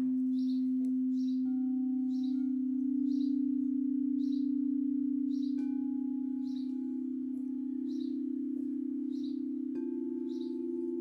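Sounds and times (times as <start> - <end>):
bird chirping: 0.0 - 11.0
singing bowl ringing: 0.0 - 11.0.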